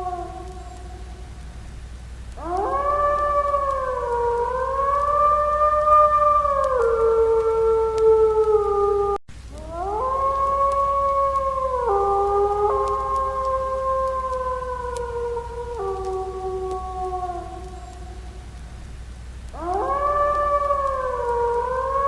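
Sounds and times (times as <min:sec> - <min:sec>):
wolf howling: 0:00.0 - 0:01.2, 0:02.4 - 0:18.5, 0:19.5 - 0:22.0.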